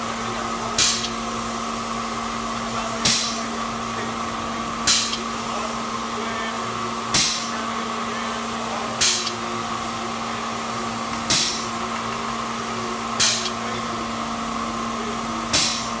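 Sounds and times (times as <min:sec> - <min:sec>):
air puffs hissing: 0:00.0 - 0:16.0
spray rig hiss and hum: 0:00.0 - 0:16.0.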